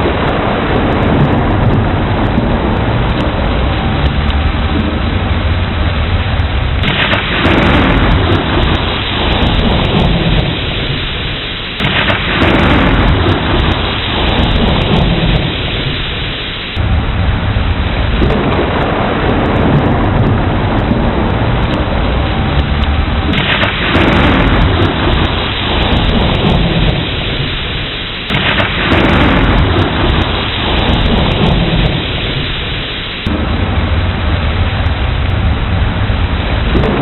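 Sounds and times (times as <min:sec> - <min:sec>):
heavy rain falling: 0:00.0 - 0:37.0
rolling thunder: 0:00.0 - 0:37.0.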